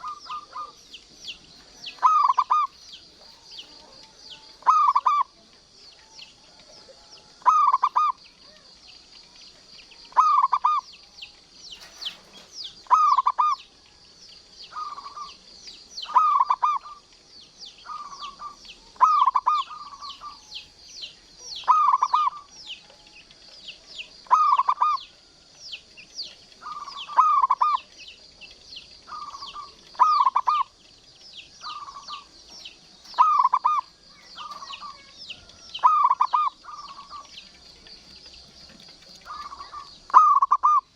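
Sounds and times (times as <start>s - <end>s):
dove cooing: 0.0s - 9.3s, 10.0s - 11.1s, 11.8s - 13.8s, 14.6s - 17.2s, 17.8s - 40.9s
high chirping: 0.0s - 40.9s.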